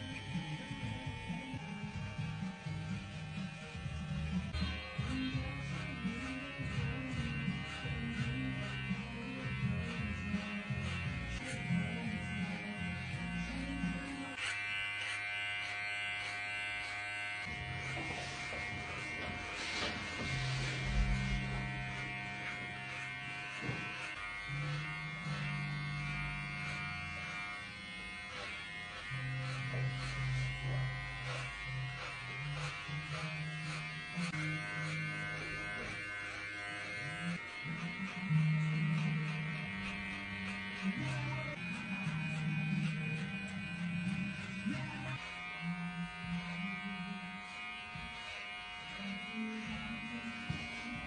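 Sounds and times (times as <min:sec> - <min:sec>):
electric hair clipper buzzing: 0:00.0 - 0:51.0.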